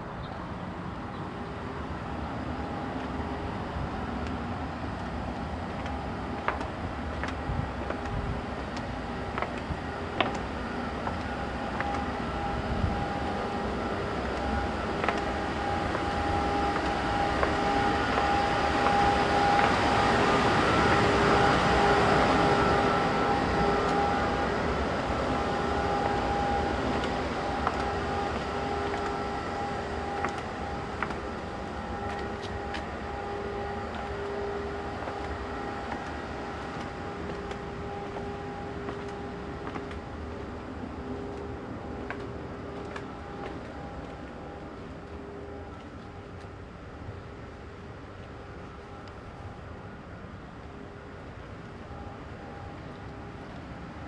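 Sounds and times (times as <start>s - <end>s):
mechanical hum with two tones: 0.0s - 54.0s.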